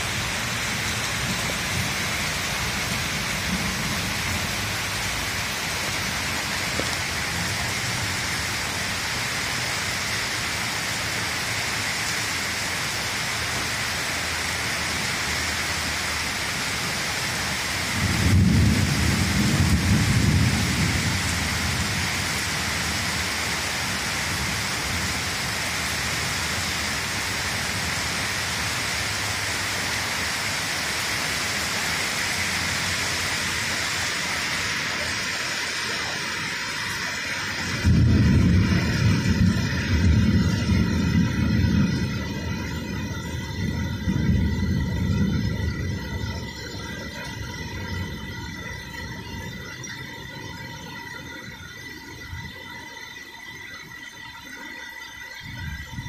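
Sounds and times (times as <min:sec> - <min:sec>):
thunder rumble: 0:00.0 - 0:10.8, 0:16.7 - 0:52.7
steady rain: 0:00.0 - 0:56.0.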